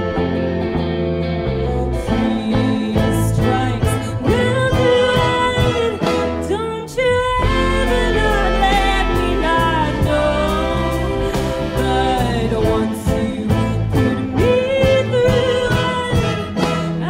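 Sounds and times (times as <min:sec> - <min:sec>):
live folk band playing: 0:00.0 - 0:17.0
woman singing: 0:01.5 - 0:17.0.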